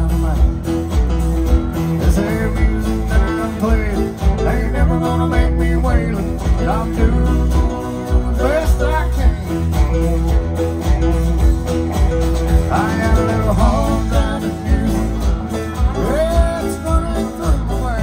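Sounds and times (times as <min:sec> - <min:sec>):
country band playing: 0:00.0 - 0:18.0
strummed acoustic guitars: 0:00.0 - 0:18.0.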